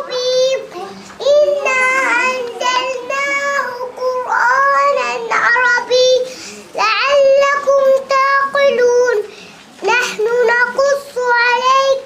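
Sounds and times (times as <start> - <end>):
child singing: 0.0 - 12.0.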